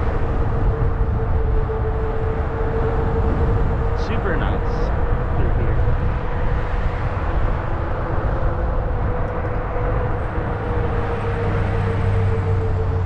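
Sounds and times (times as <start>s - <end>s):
tyres and wind rumble: 0.0s - 13.0s.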